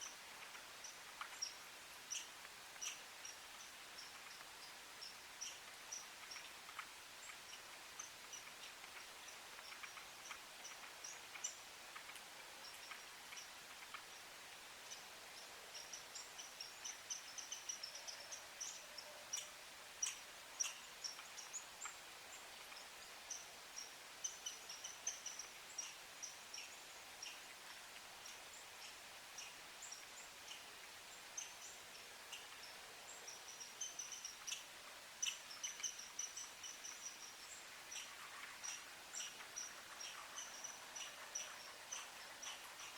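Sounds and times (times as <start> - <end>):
faint bird chirps and twitters: 0.0 - 42.9.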